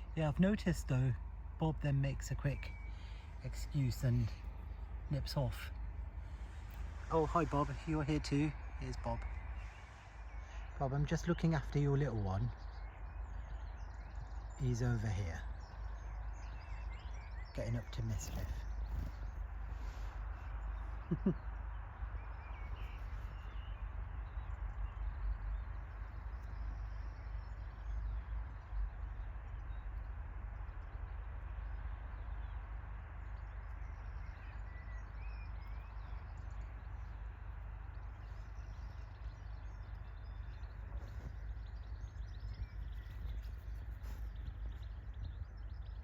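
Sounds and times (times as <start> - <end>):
faint bird chirps: 0.0 - 46.0.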